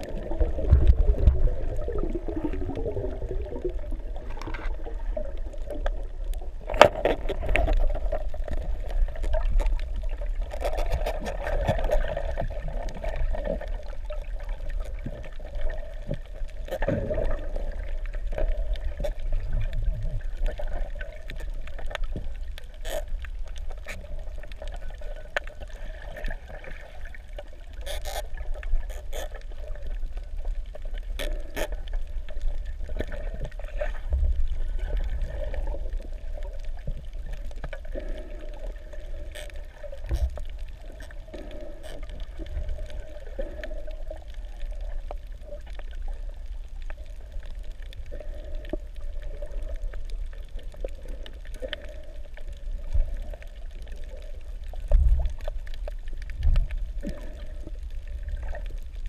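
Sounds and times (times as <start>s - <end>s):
muffled underwater water rush: 0.0s - 59.0s
sharp underwater clicks and crackles: 0.0s - 59.0s.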